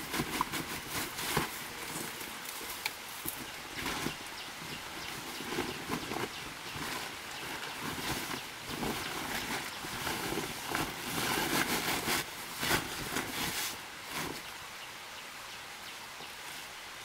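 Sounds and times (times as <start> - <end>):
plastic sack rustling: 0.0 - 14.5
faint steady hiss: 0.0 - 17.0.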